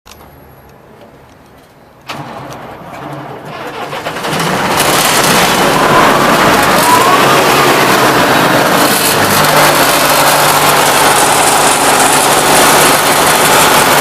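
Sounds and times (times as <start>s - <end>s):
diesel engine starting and running: 2.0s - 14.0s.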